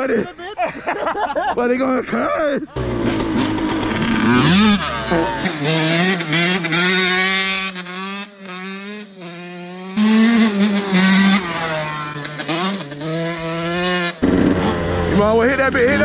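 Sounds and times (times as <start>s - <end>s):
dirt bike engine revving: 2.8s - 16.0s.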